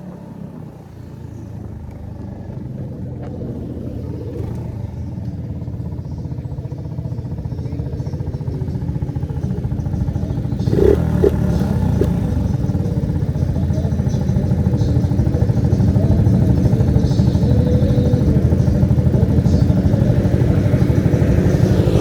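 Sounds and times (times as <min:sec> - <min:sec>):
moped engine passing: 0:00.0 - 0:22.0.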